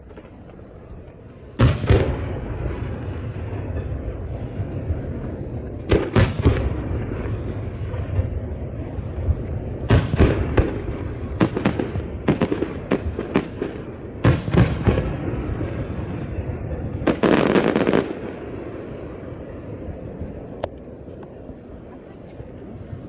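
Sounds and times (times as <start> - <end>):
firework crackling burst: 0.0 - 21.1
firework shells booming: 0.0 - 21.9.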